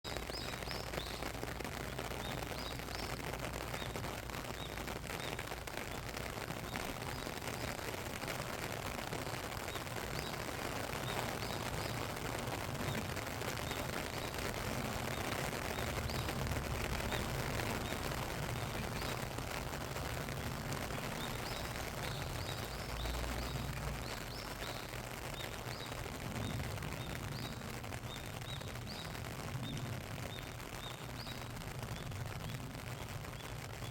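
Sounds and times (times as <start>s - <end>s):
small birds chirping: 0.0s - 33.9s
steady rain falling: 0.0s - 33.9s.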